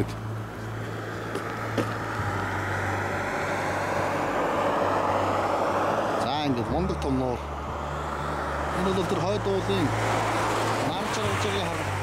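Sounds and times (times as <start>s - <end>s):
car engine hum: 0.0s - 12.0s
tyres and air rushing: 0.0s - 12.0s.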